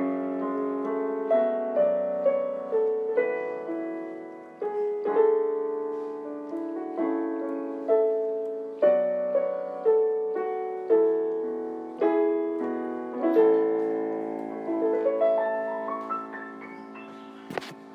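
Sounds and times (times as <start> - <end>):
slow piano melody: 0.0 - 17.9.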